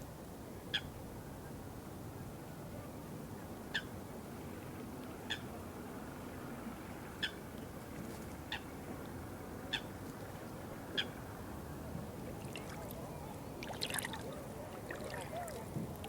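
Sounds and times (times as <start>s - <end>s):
flowing water: 2.3s - 16.0s.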